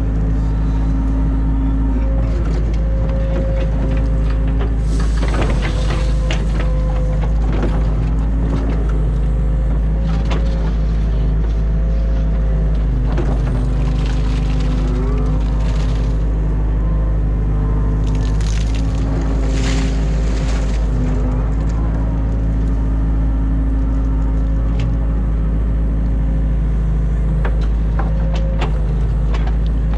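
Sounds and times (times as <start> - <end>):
hydraulic whine: 0.0 - 26.1
excavator diesel engine running: 0.0 - 29.9.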